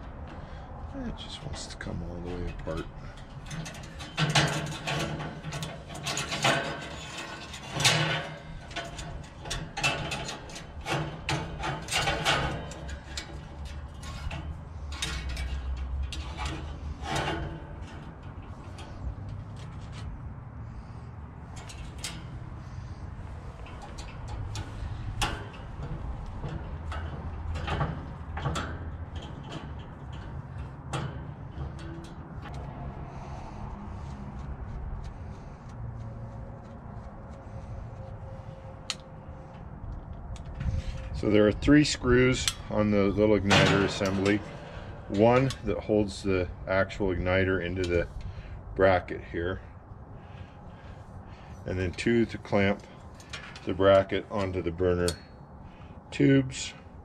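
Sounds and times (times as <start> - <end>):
steady low hum: 0.0 - 57.0
metal parts clicking and clanking: 2.2 - 34.4, 35.1 - 57.0.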